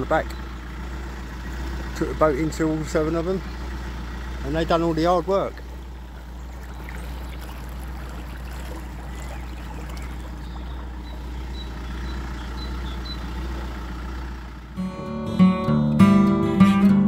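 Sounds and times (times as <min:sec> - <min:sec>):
boat engine low drone: 0:00.0 - 0:15.2.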